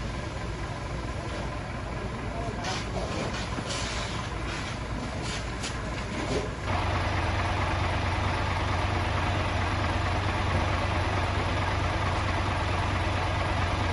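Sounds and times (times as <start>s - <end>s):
fire engine idling: 0.0s - 13.9s.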